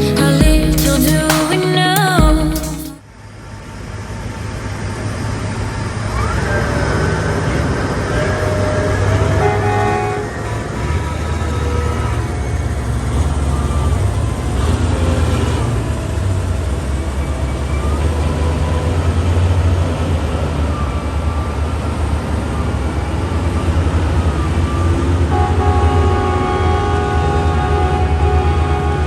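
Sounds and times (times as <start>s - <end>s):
heavy vehicle engine rumbling: 0.0s - 29.0s.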